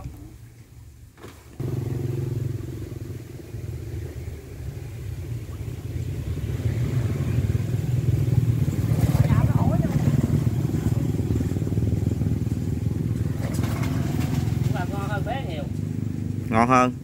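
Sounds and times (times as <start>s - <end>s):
boat engine throbbing: 1.6s - 17.0s.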